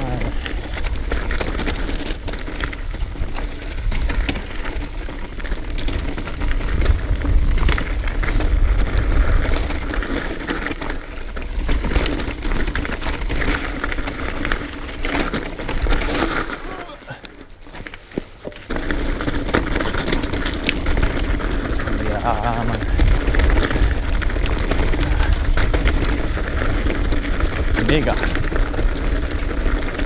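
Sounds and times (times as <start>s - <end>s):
wind rumble on microphone: 0.0s - 14.4s, 20.4s - 30.0s
bike clattering over bumps: 0.0s - 30.0s
bike tyres rolling over dirt: 0.0s - 30.0s.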